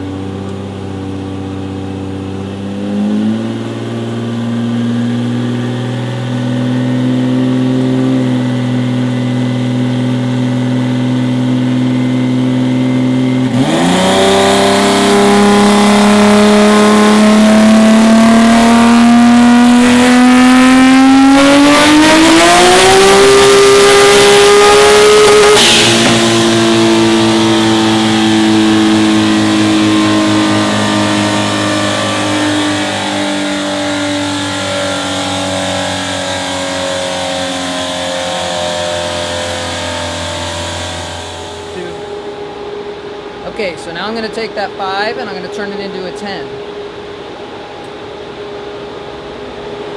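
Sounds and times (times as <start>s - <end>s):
car engine revving on a dyno: 0.0s - 44.4s.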